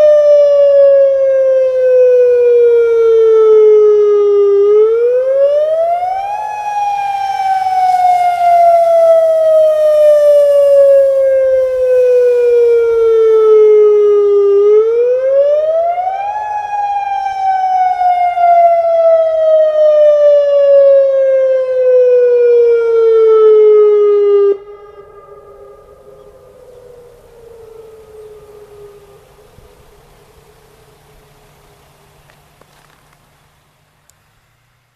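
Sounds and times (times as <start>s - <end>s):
warning siren wailing: 0.0s - 32.0s
faint steady tone: 0.0s - 34.9s.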